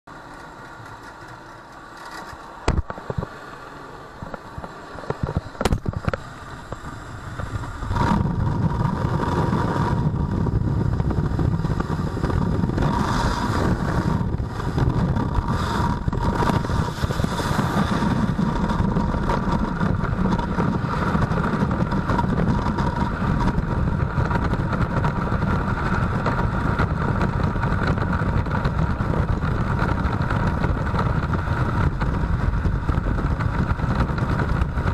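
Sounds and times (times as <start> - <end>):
aircraft engine noise: 0.1 - 34.9
rush of wind: 0.1 - 34.9
muffled aircraft cabin drone: 0.3 - 34.9.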